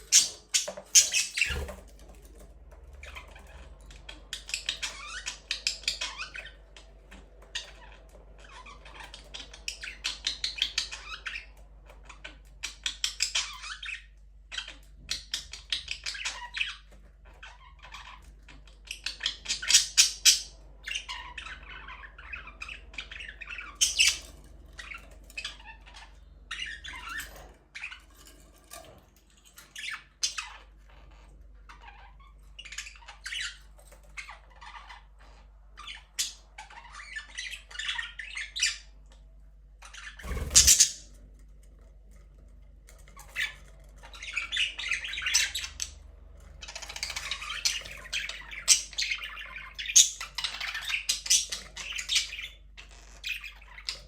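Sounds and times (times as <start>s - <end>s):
budgerigars chattering and squawking: 0.0s - 28.4s, 29.4s - 39.2s, 39.8s - 41.2s, 43.2s - 46.0s, 46.6s - 54.0s.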